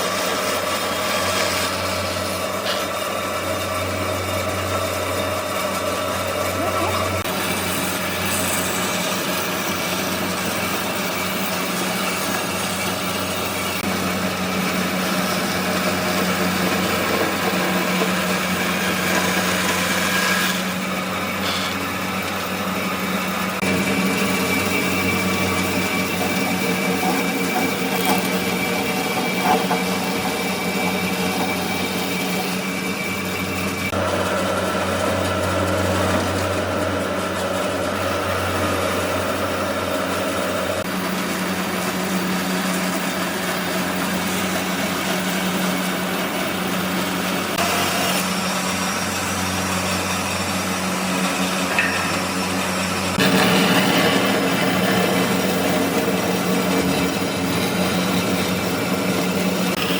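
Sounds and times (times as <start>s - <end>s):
power tool on wood: 0.0s - 59.9s.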